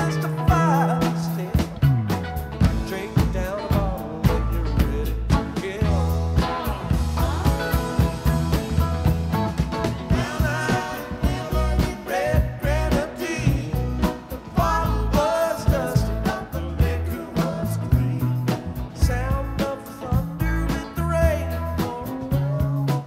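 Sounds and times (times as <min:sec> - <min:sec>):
person singing: 0:00.0 - 0:02.0, 0:02.6 - 0:23.0
steady drum beat: 0:00.0 - 0:23.0.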